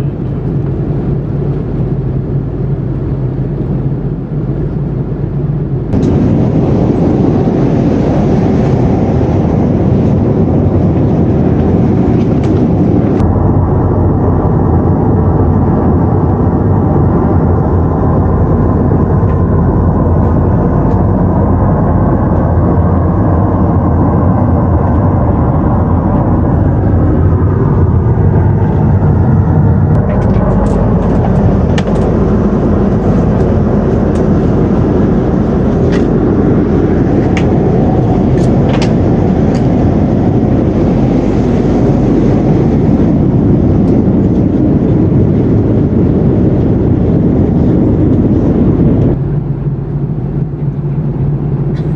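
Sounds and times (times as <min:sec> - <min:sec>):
airplane cabin airflow and engine noise: 0:00.0 - 0:51.9.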